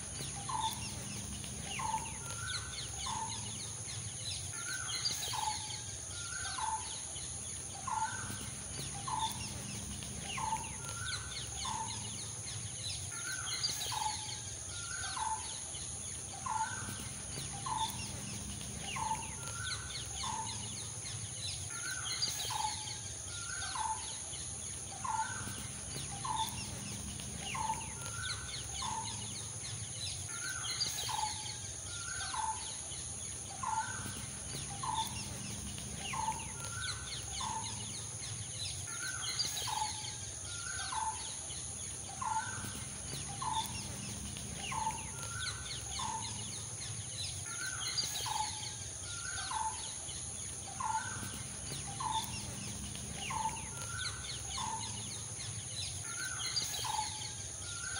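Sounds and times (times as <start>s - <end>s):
faint high chirping: 0.0s - 57.9s.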